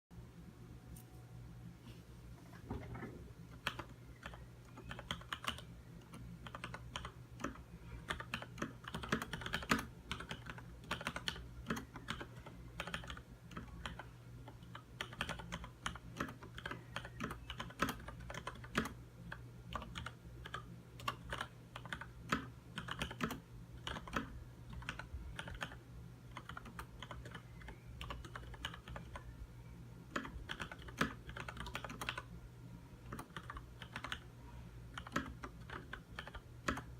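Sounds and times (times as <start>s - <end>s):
steady low hum: 0.1s - 36.9s
mechanical keyboard typing: 3.5s - 29.3s, 30.1s - 32.3s, 33.0s - 34.3s, 34.9s - 36.9s.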